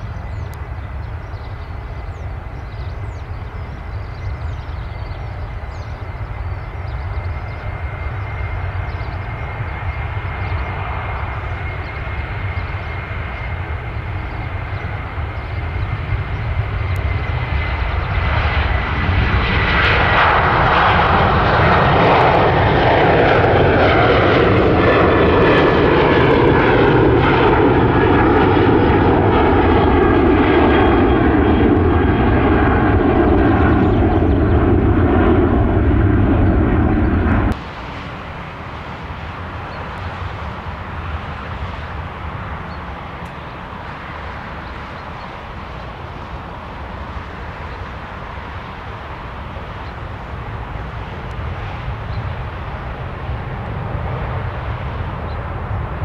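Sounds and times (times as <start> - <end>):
jet airliner engines roaring: 0.0 - 56.0.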